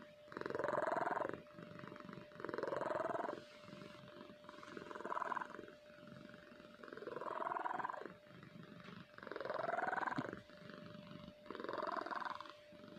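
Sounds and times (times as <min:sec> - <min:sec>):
cat snoring: 0:00.0 - 0:12.9
quiet breaths: 0:00.0 - 0:12.9.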